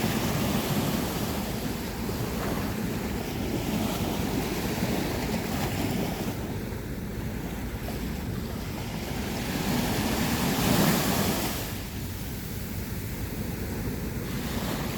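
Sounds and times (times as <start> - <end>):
waves washing on sandy beach: 0.0 - 14.9.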